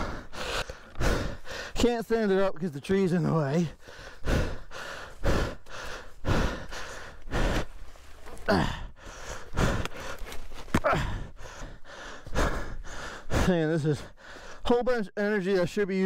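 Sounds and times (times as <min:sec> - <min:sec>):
heavy labored breathing: 0:00.0 - 0:14.7.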